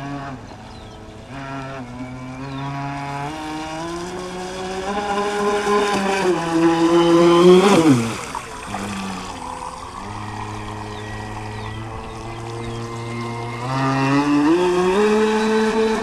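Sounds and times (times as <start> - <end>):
electric boat motor whining: 0.0 - 16.0.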